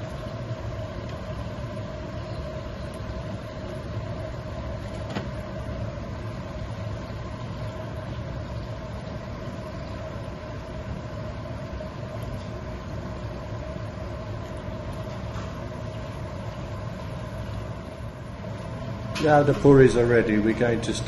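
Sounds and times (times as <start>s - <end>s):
faint oil sizzle: 0.0s - 21.0s
low hum with steady tone: 0.0s - 21.0s.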